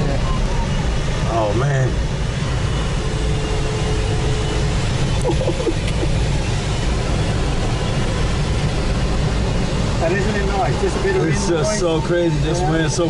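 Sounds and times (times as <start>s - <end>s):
airflow wind noise in cockpit: 0.0s - 13.0s.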